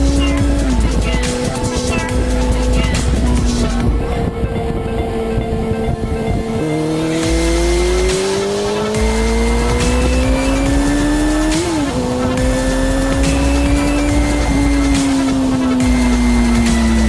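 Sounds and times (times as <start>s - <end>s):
motorcycle engine accelerating: 0.0s - 17.0s
wind buffeting: 0.0s - 17.0s.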